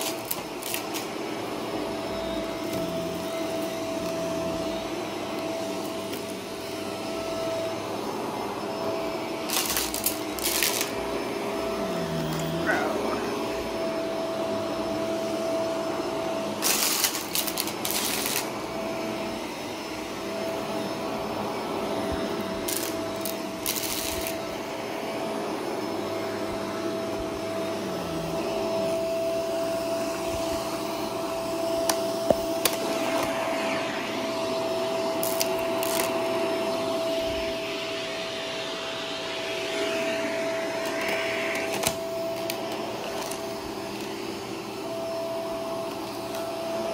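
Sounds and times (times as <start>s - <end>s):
vacuum cleaner whining: 0.0s - 46.9s.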